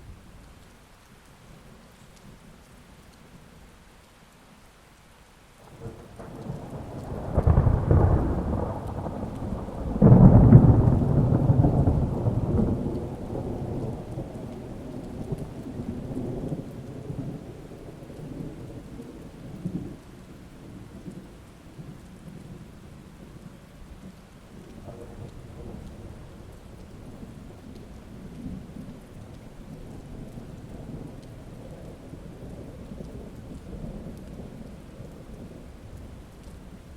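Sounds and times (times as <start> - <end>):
steady rain: 0.0 - 36.9
thunder rumbling: 5.6 - 36.9.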